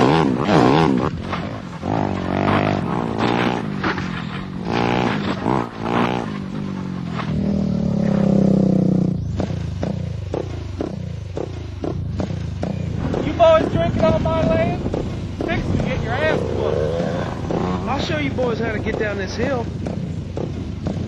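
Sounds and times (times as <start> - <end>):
knocks and scraping clatter: 0.0 - 8.5, 9.3 - 21.0
motorcycle engine revving: 0.0 - 21.0.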